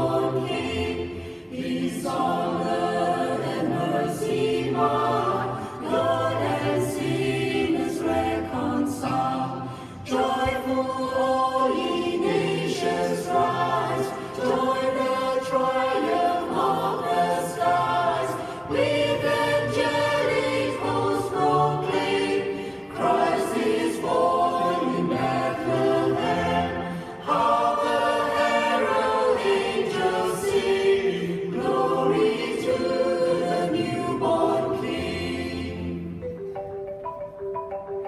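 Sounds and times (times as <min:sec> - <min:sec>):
mixed choir singing a carol: 0:00.0 - 0:36.3.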